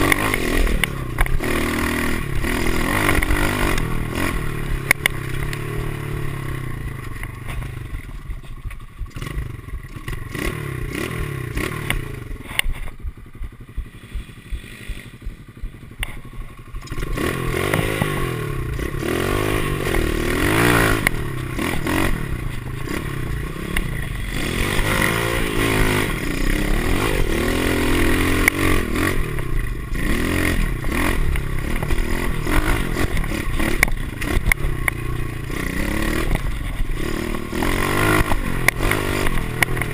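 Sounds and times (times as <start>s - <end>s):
small motorbike engine revving: 0.0s - 39.9s.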